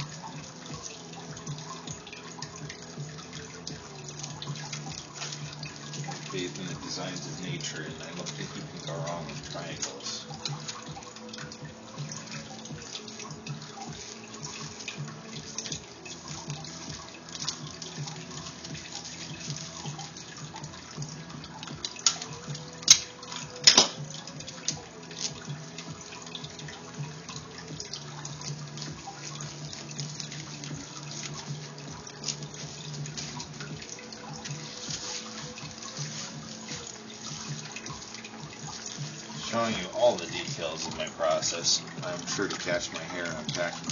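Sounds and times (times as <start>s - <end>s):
aquarium filter water trickling: 0.0s - 43.9s.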